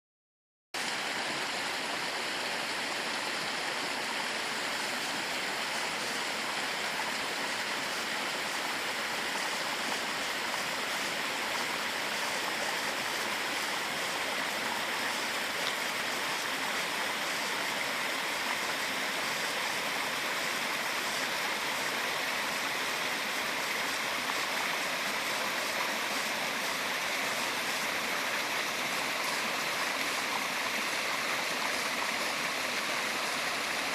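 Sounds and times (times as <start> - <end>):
waterfall splashing over rocks: 0.8 - 33.9.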